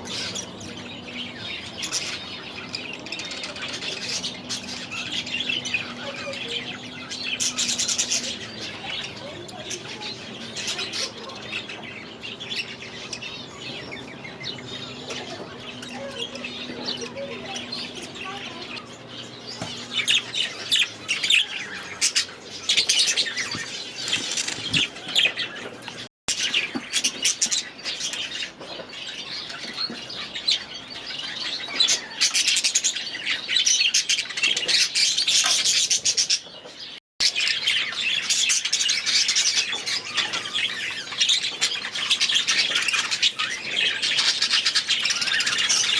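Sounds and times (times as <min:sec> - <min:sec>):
budgerigars chattering: 0:00.0 - 0:45.9.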